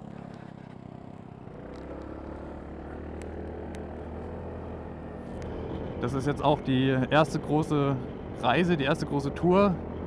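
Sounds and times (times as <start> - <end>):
scooter engine running: 0.0 - 10.0.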